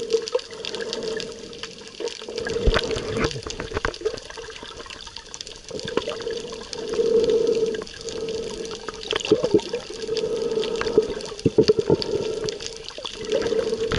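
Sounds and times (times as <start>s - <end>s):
underwater hum: 0.0s - 13.9s
water rushing underwater: 0.0s - 13.9s.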